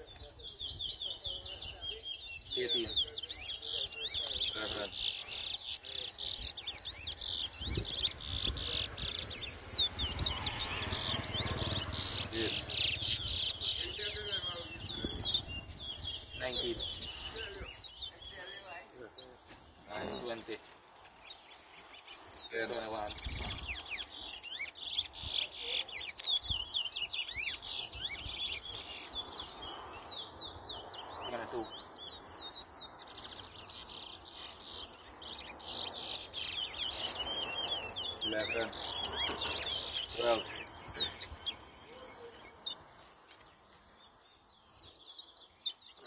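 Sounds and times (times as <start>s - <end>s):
finches singing: 0.0s - 46.0s.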